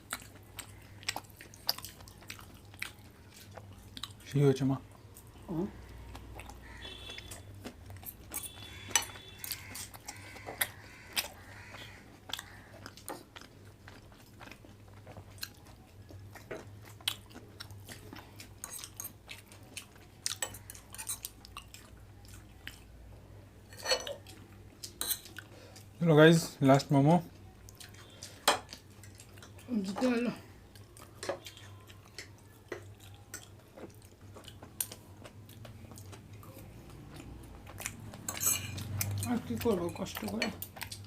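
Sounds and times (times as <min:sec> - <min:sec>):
people chewing food: 0:00.0 - 0:41.0.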